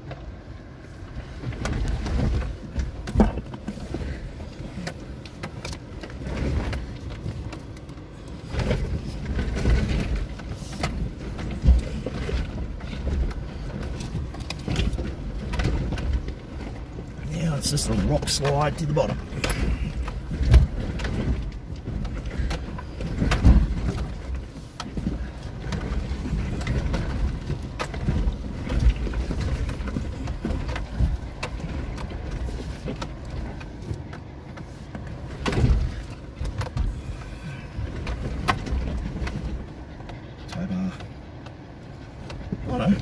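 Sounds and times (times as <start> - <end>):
low engine rumble: 0.0 - 43.0.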